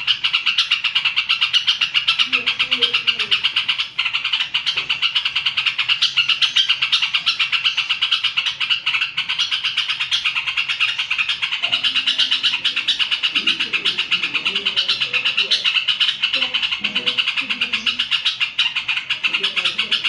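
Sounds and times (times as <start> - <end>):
bulbul singing: 0.0 - 20.0
fast pulsing chirr: 0.0 - 20.0.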